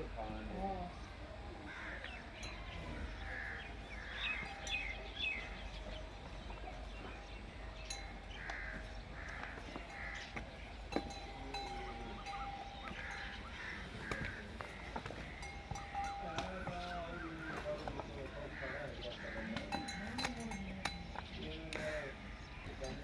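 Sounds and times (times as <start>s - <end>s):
birds cawing: 0.1s - 23.0s
bird chirps: 1.8s - 23.0s.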